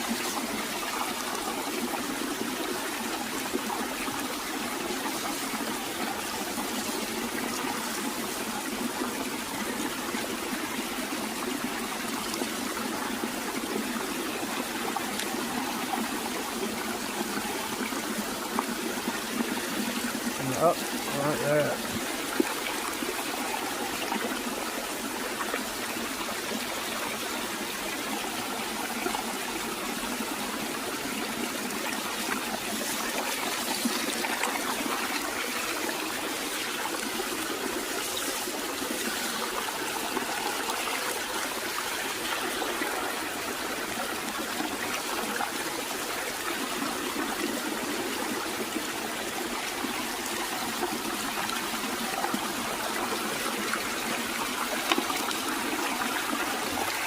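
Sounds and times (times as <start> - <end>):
water trickling over rocks: 0.0 - 57.0.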